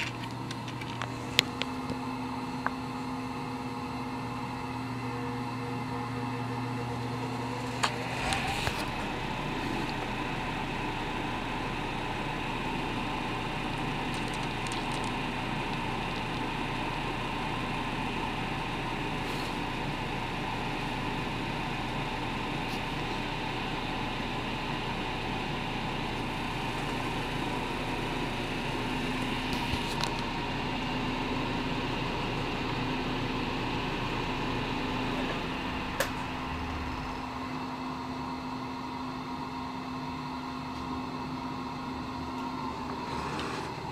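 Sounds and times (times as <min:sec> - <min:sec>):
wood lathe motor hum and whine: 0:00.0 - 0:43.9.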